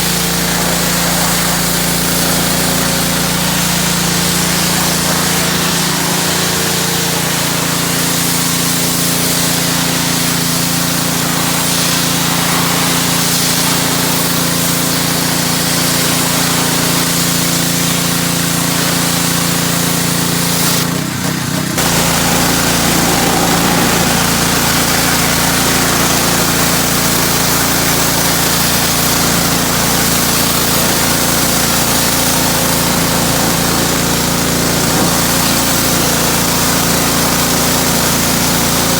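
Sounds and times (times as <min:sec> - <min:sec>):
pressure washer spraying: 0:00.0 - 0:38.9.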